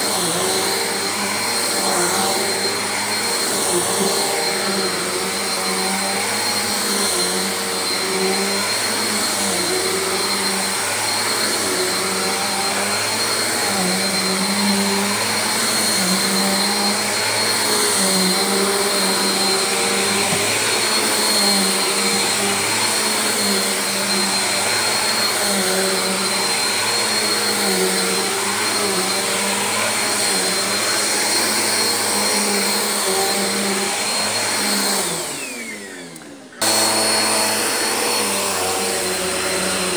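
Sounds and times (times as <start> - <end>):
vacuum cleaner motor drone: 0.0 - 39.9.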